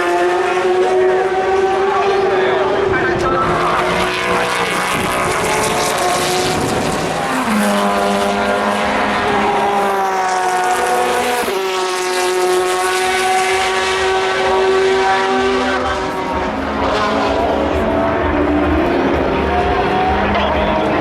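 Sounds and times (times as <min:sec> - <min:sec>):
race car engines at speed: 0:00.0 - 0:21.0.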